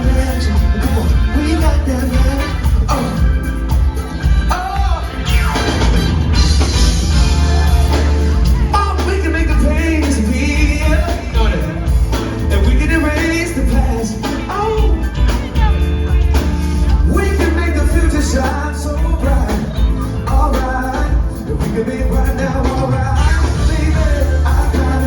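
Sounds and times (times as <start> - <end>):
pop band playing: 0.0 - 25.0.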